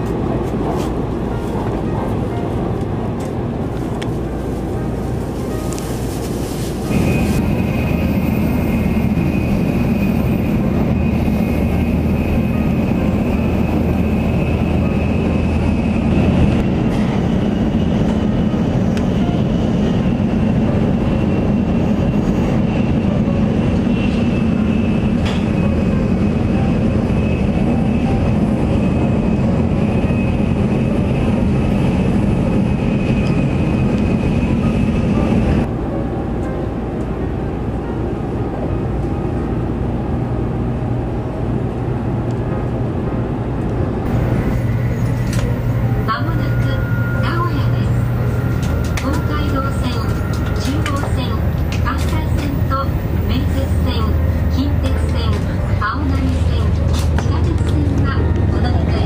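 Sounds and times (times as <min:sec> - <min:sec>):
train cabin rumble: 0:00.0 - 0:59.0.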